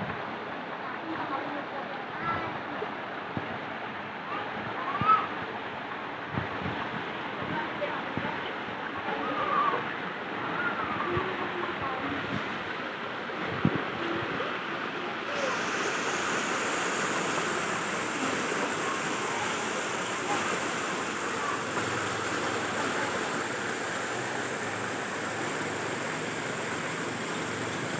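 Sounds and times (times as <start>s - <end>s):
water rushing: 0.0s - 27.9s.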